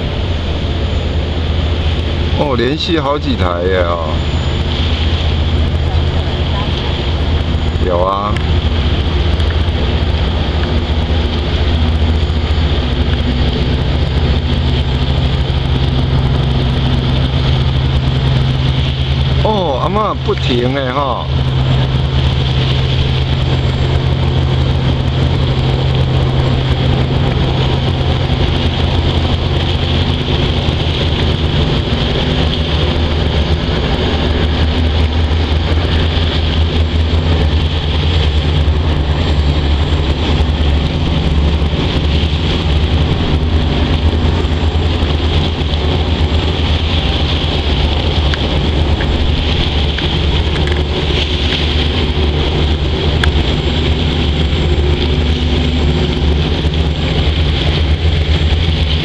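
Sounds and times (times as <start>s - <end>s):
boat engine drone: 0.0s - 59.0s
water washing along hull: 0.0s - 59.0s.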